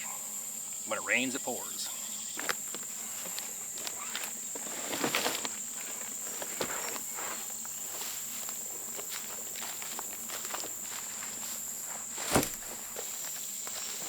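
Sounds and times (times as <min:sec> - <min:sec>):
insects droning: 0:00.0 - 0:14.0
footsteps on forest floor: 0:02.3 - 0:14.0.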